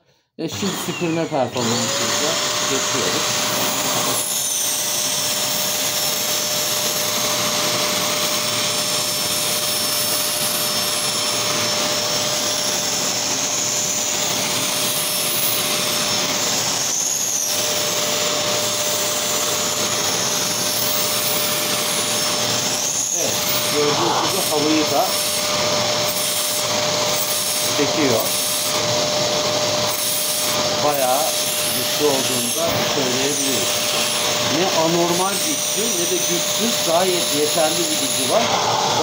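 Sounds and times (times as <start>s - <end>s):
stick vacuum running: 0.4s - 39.0s.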